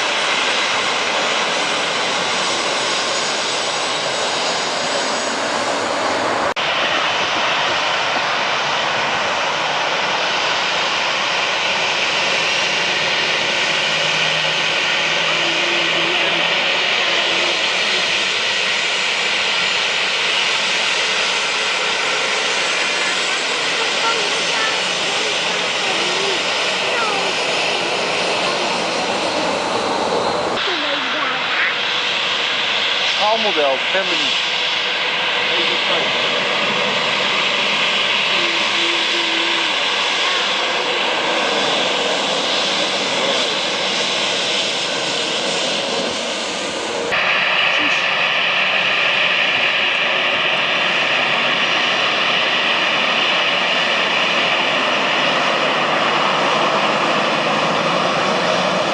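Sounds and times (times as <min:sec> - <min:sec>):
jet engines running: 0:00.0 - 0:58.9.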